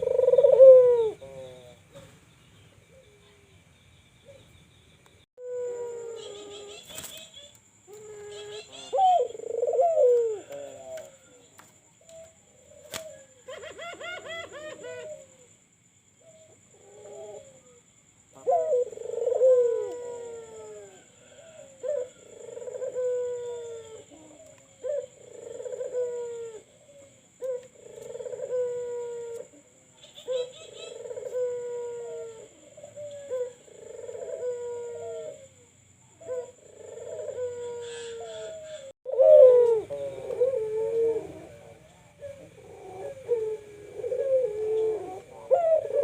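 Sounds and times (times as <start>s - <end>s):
doves cooing: 0.0s - 2.1s, 5.4s - 15.6s, 16.2s - 46.0s.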